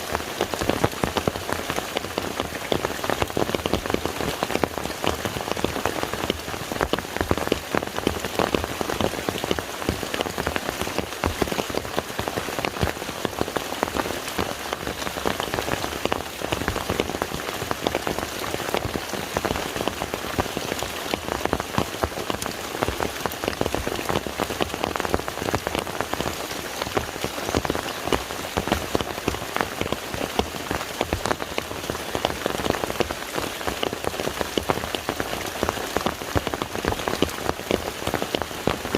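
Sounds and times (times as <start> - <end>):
rain falling on a lake: 0.0 - 38.9.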